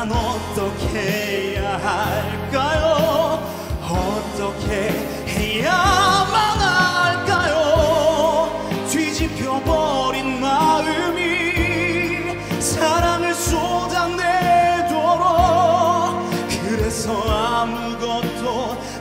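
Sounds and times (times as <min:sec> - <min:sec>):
instrumental accompaniment: 0:00.0 - 0:19.0
man singing pop ballad: 0:00.0 - 0:19.0.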